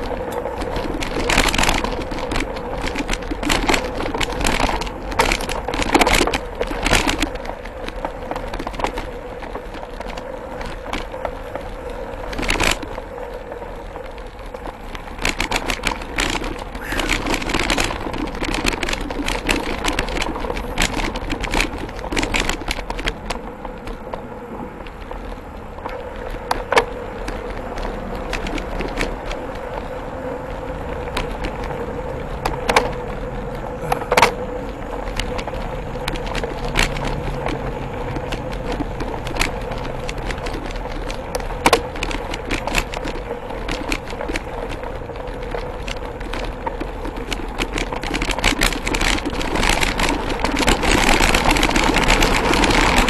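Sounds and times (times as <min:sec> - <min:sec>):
bike clicks and rattles: 0:00.0 - 0:53.0
bike tyres rolling on dirt: 0:00.0 - 0:53.0.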